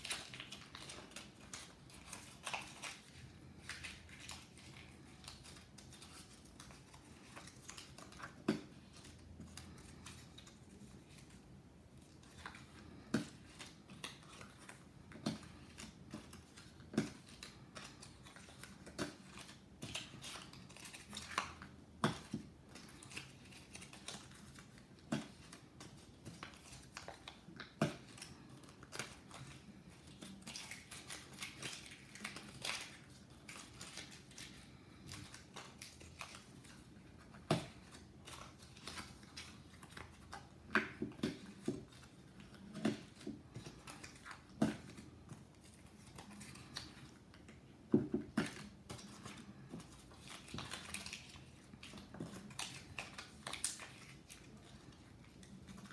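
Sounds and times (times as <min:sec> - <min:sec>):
paper rustling and crinkling: 0:00.0 - 0:55.9.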